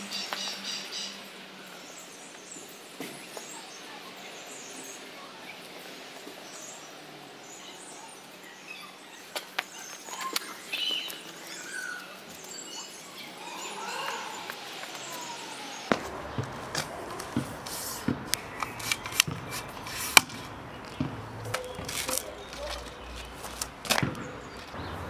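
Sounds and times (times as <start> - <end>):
faint steady background noise: 0.0 - 25.0
small birds chirping: 0.0 - 25.0.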